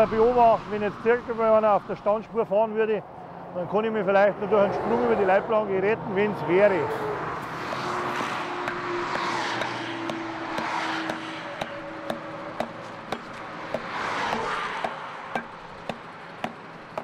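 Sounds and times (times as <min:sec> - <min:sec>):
traffic rushing past: 0:00.0 - 0:17.0.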